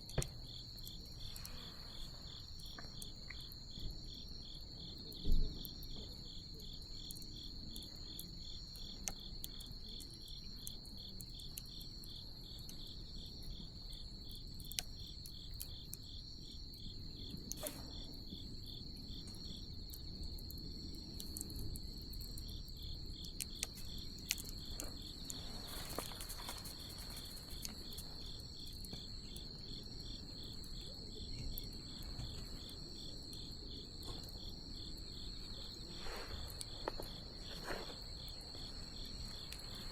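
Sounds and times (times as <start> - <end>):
insect pulsed chirp: 0.0 - 39.9.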